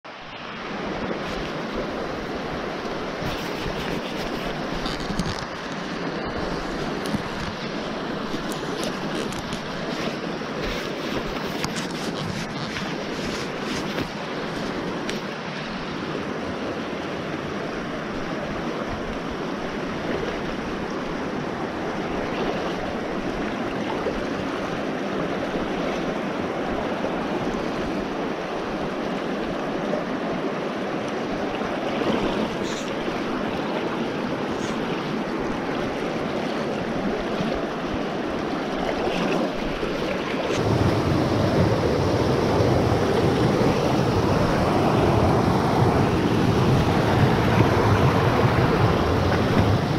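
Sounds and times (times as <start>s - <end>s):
stream running over stones: 0.1s - 49.9s.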